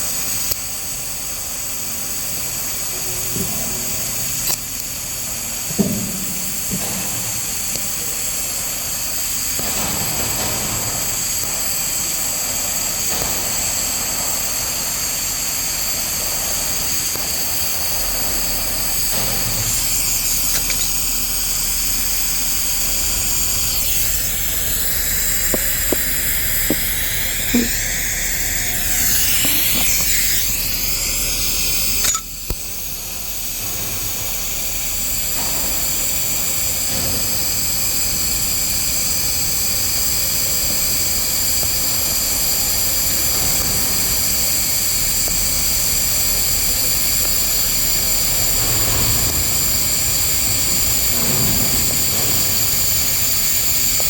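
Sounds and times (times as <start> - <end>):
welding arc hissing: 0.0 - 54.0.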